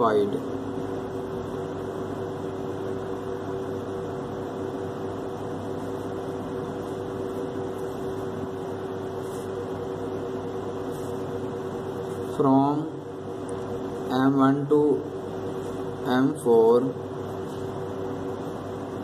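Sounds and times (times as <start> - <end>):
mechanical hum with steady tones: 0.0 - 19.0.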